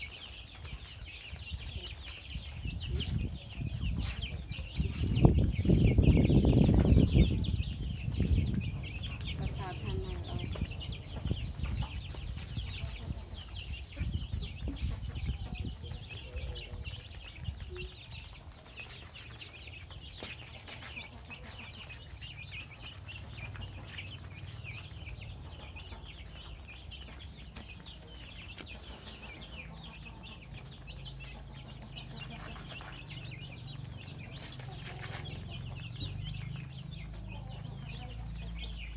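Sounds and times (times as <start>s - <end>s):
chicks cheeping: 0.0s - 38.9s.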